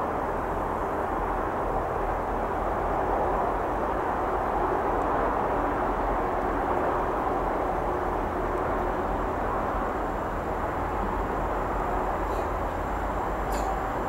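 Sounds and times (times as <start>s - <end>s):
distant train rumble: 0.0s - 14.0s.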